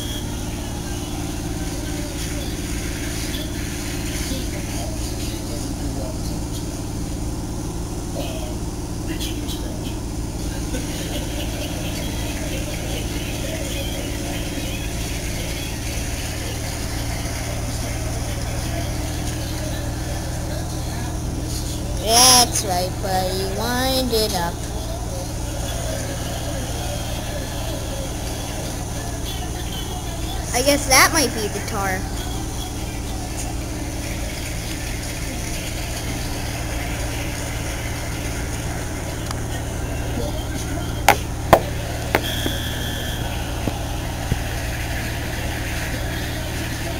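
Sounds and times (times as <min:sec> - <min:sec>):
truck and paver engines droning: 0:00.0 - 0:46.9.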